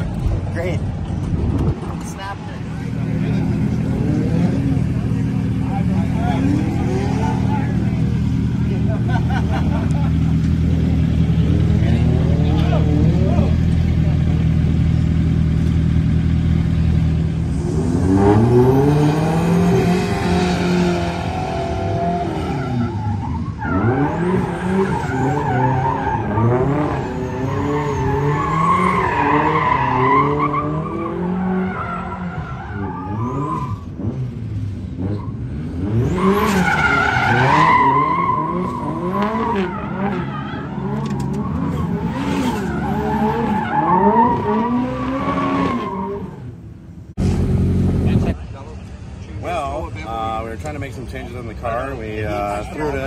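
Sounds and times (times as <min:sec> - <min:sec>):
car engine revving: 0:00.1 - 0:46.6.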